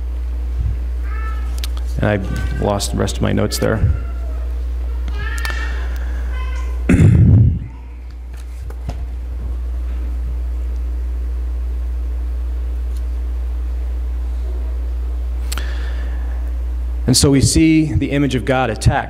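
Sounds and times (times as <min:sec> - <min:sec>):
sound system hum: 0:00.0 - 0:19.0.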